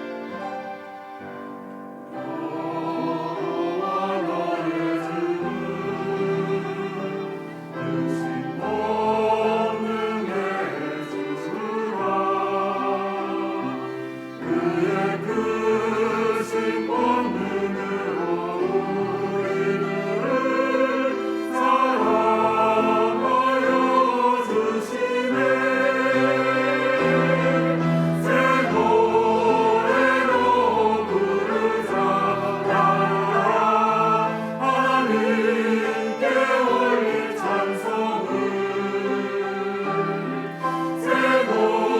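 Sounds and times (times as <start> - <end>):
church choir singing: 0.0 - 41.9.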